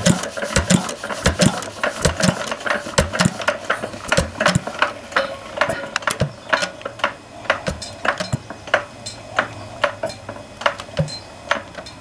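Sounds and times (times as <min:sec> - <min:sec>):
stationary engine running slowly: 0:00.0 - 0:12.0.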